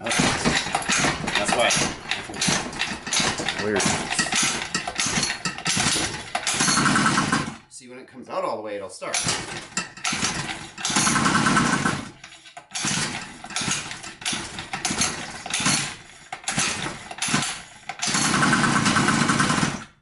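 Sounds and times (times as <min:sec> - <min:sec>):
small engine pull-start cranking: 0:00.0 - 0:07.6, 0:09.2 - 0:20.0.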